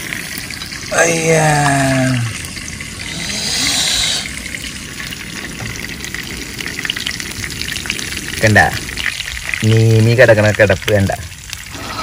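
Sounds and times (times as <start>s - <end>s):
hot oil sizzling in pan: 0.0s - 12.0s
oil crackles: 0.0s - 12.0s.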